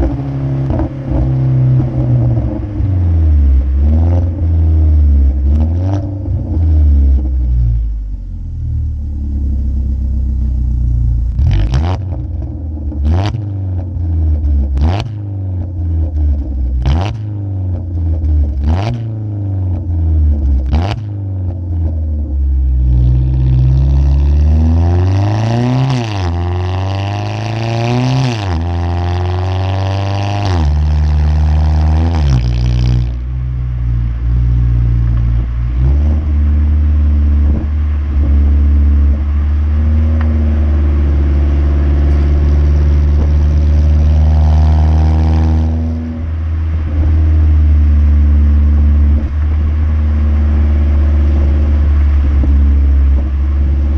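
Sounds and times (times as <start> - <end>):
engine revving: 0.0 - 53.9
loud low car exhaust: 0.0 - 53.9
sharp exhaust pops: 0.0 - 53.9.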